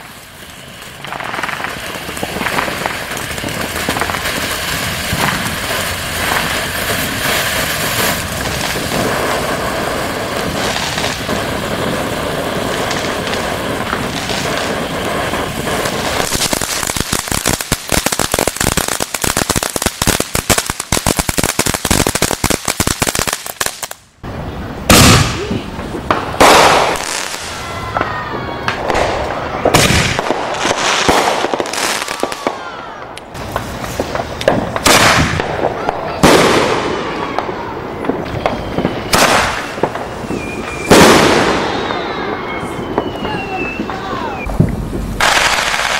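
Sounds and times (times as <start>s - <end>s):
firework bangs: 0.0s - 45.9s
firework crackling: 0.0s - 45.9s
firework hissing: 0.0s - 45.9s
firework whistles: 0.0s - 45.9s.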